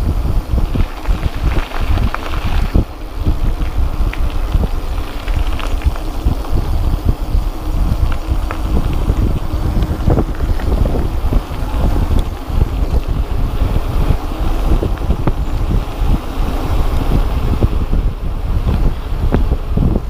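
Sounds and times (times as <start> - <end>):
bike rattling over rough ground: 0.0 - 20.0
wind buffeting microphone: 0.0 - 20.0.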